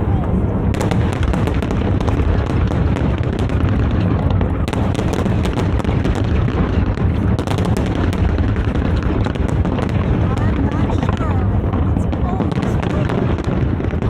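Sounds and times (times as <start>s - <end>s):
firework booms: 0.0s - 14.0s
firework cracks: 0.0s - 14.0s.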